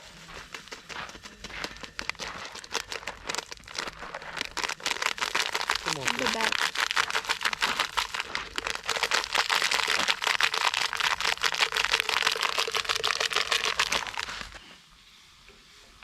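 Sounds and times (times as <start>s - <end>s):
rapid crinkling and crackling: 0.0s - 14.8s.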